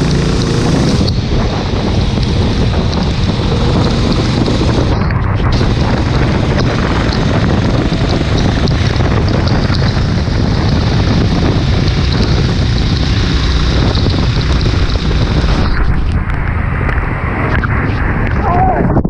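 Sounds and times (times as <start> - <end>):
racing kart engines rumbling: 0.0 - 18.4
wind buffeting microphone: 0.0 - 19.0.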